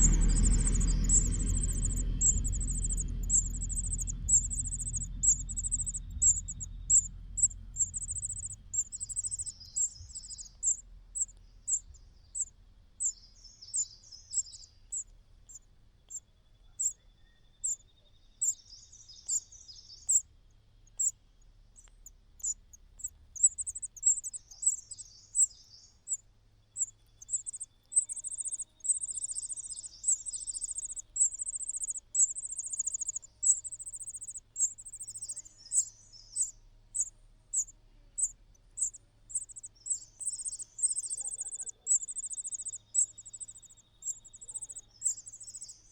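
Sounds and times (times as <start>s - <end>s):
nestling birds begging calls: 0.0s - 15.6s, 22.4s - 26.2s, 26.8s - 45.9s.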